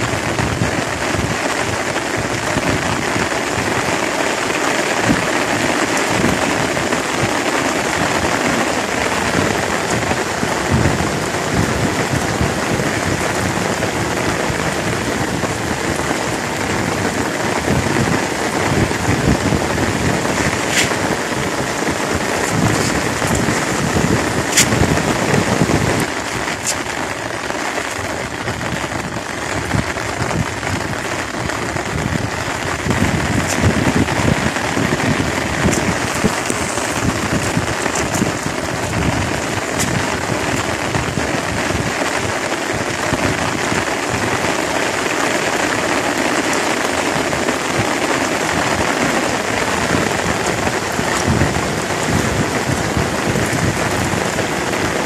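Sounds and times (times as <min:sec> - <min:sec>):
rain on water and grass: 0:00.0 - 0:55.0.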